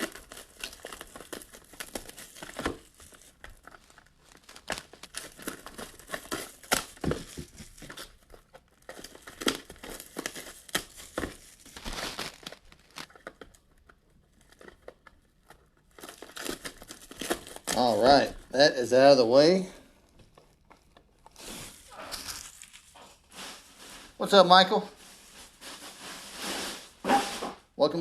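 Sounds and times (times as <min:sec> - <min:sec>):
plastic wrap crinkling and ripping: 0:00.0 - 0:28.0.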